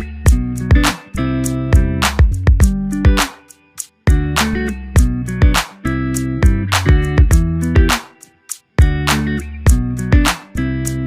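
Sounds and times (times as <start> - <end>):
guitar chords: 0.0 - 11.0
steady beat: 0.0 - 11.0.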